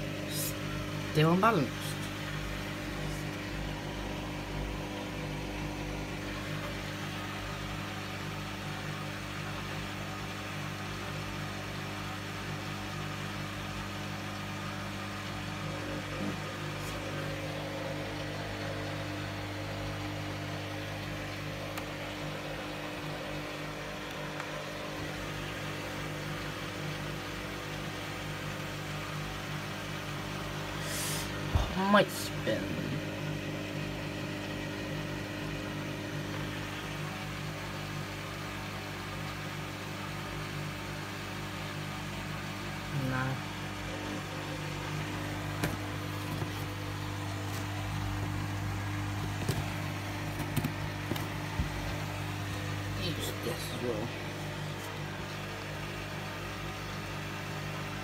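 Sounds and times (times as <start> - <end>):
washing machine motor humming: 0.0 - 58.0.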